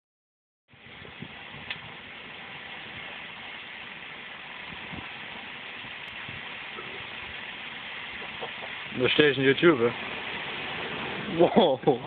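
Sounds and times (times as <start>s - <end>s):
faint fire pops: 0.7s - 12.0s
flames rushing: 0.7s - 12.0s.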